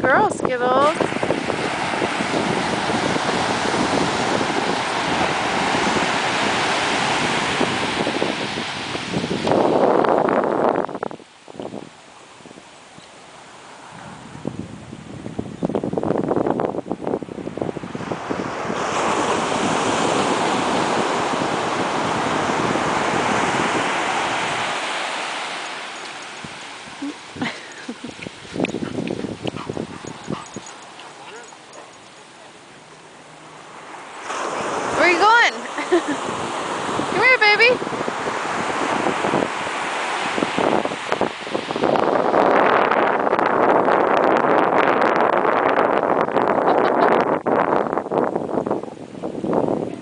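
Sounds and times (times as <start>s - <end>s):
wind buffeting microphone: 0.0s - 12.7s, 13.8s - 50.0s
ocean surf: 0.0s - 50.0s.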